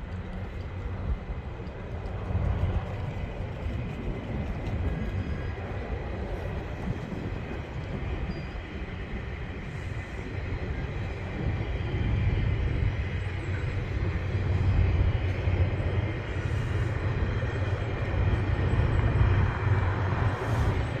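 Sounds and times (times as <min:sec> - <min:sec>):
diesel train engine drone: 0:00.0 - 0:21.0
train cars rumbling on rails: 0:00.0 - 0:21.0.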